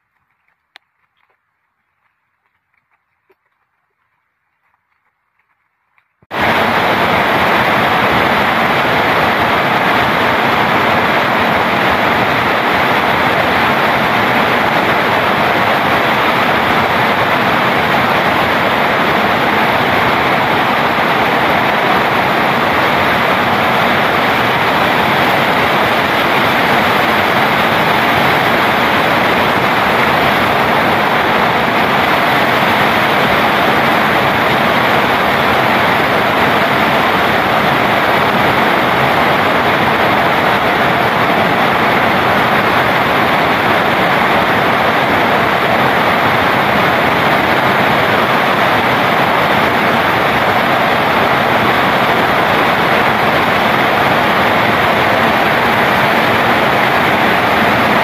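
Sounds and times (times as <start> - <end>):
rain falling on foliage: 0.0 - 58.0.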